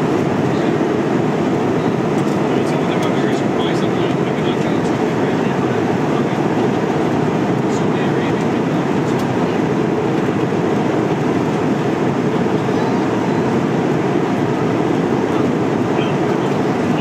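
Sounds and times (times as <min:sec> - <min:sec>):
airplane cabin engine roar: 0:00.0 - 0:17.0.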